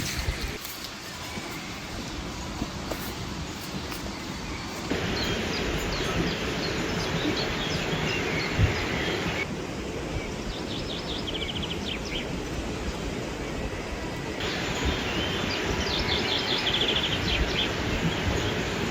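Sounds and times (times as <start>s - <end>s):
small birds chirping: 0.0s - 18.9s
steady rushing noise: 0.0s - 18.9s.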